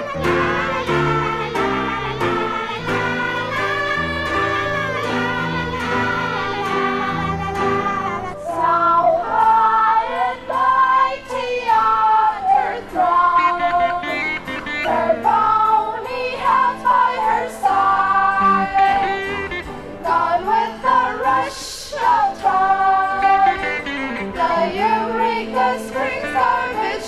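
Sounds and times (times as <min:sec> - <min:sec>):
women singing with backing band: 0:00.0 - 0:27.0.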